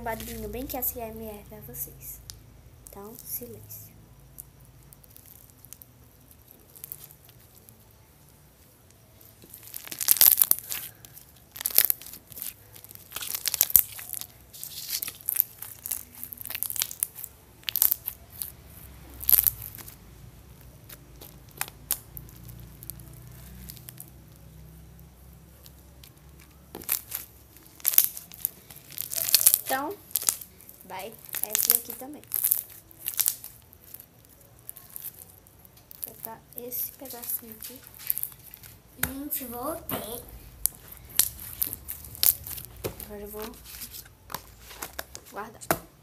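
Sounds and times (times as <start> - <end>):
crunchy slime crackling: 0.0 - 45.6.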